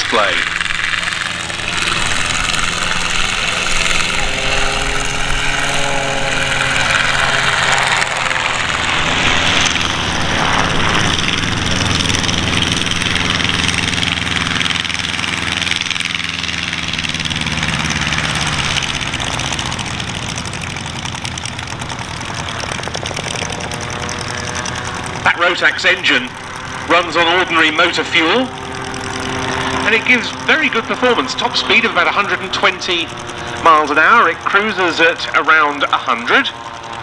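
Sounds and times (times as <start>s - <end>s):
aircraft engine and propeller droning: 0.0s - 37.0s.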